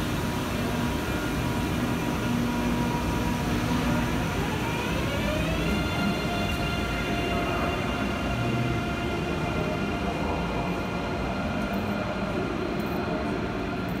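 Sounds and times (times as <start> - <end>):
electric train rumbling: 0.0 - 14.0
train electric whine: 0.0 - 14.0.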